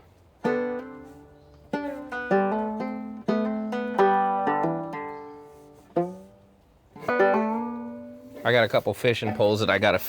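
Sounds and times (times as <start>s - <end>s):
banjo being picked: 0.0s - 10.0s.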